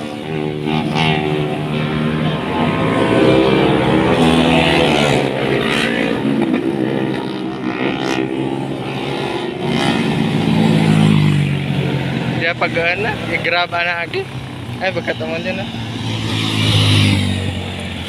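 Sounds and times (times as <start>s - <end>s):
motorcycles revving past: 0.0s - 18.0s.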